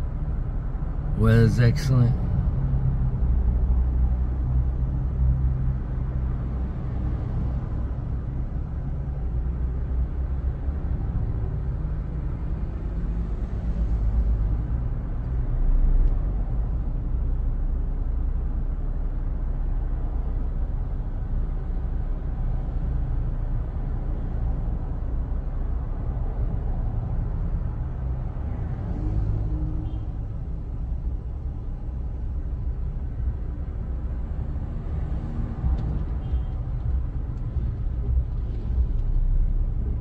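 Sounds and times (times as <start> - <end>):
car engine low rumble: 0.0 - 40.0.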